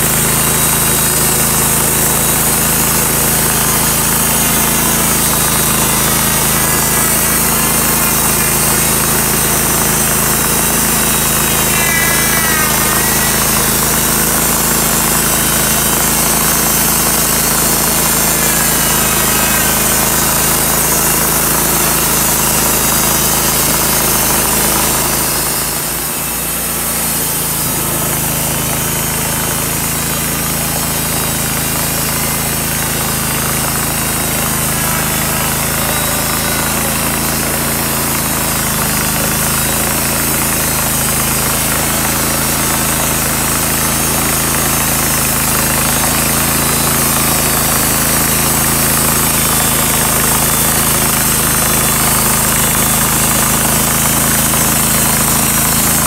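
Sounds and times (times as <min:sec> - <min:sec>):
band saw cutting log: 0:00.0 - 0:56.0
sawmill engine running: 0:00.0 - 0:56.0.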